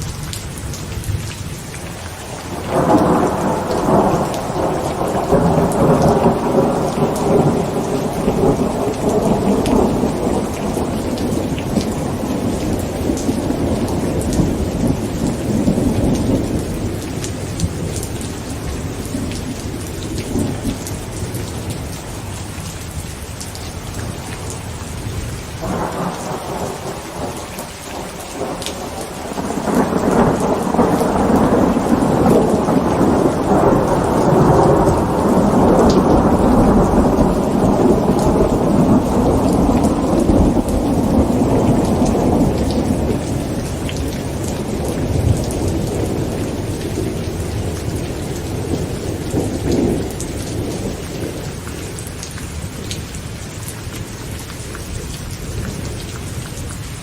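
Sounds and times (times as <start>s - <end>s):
heavy rain on a tent: 0.0s - 57.0s
thunder rumbling: 2.2s - 22.4s, 24.0s - 52.9s.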